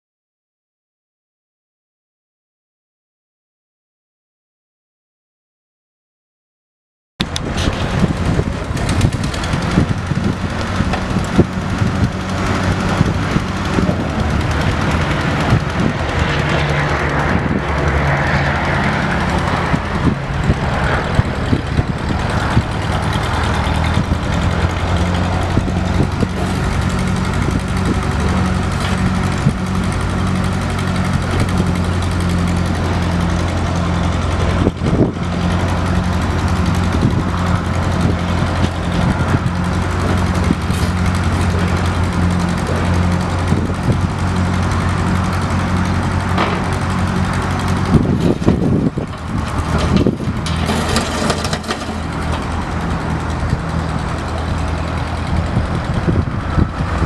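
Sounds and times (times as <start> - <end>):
tractor engine running: 7.2 - 57.0.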